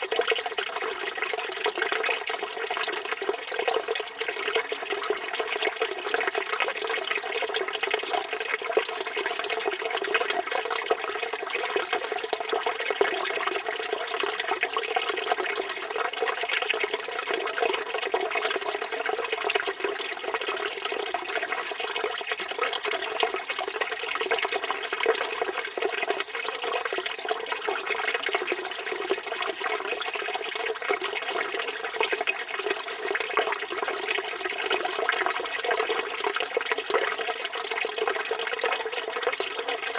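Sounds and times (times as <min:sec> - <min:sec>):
fountain water pouring: 0:00.0 - 0:39.9.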